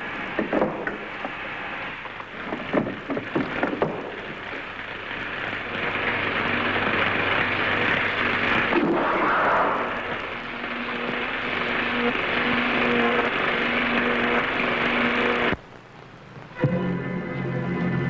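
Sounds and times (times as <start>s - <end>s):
crackling hissing noise: 0.0s - 18.0s.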